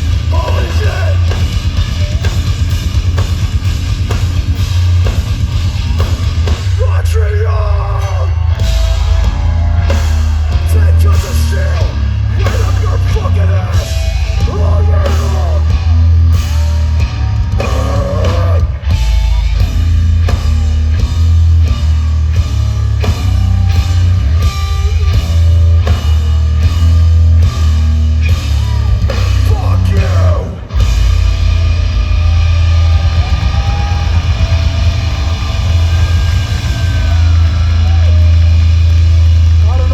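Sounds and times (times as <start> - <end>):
distorted guitars: 0.0 - 39.9
hardcore band playing live: 0.0 - 39.9
pounding drums: 0.0 - 39.9.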